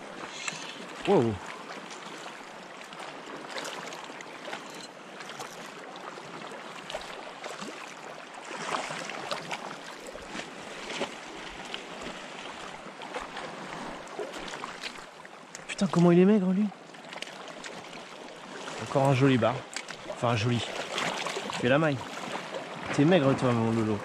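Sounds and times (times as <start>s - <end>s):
small splashes: 0.0s - 16.0s, 16.9s - 23.8s
water lapping around rocks: 0.0s - 24.0s.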